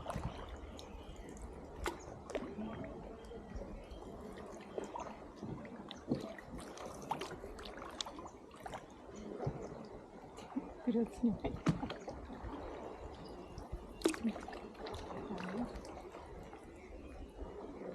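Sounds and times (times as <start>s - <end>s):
water splashing and dripping: 0.0s - 17.9s.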